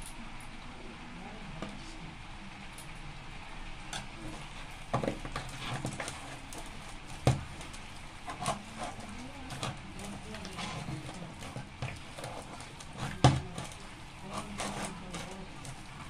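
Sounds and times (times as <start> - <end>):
hands kneading wet dough: 0.7 - 16.0.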